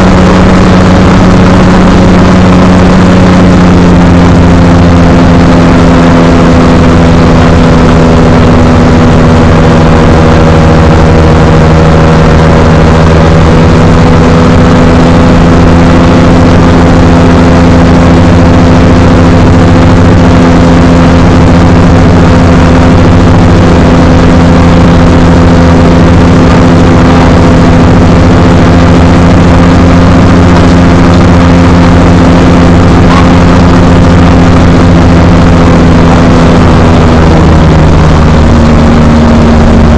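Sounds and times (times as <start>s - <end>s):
microlight engine and propeller: 0.0s - 39.9s.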